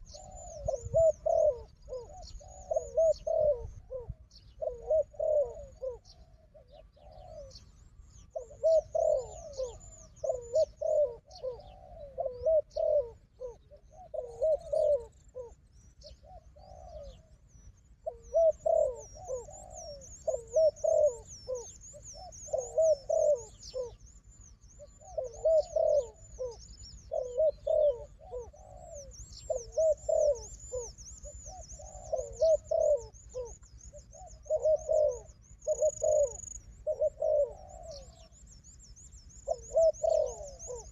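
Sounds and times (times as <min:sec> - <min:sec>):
doves cooing: 0:00.0 - 0:40.9
small bird chirping: 0:00.0 - 0:40.9.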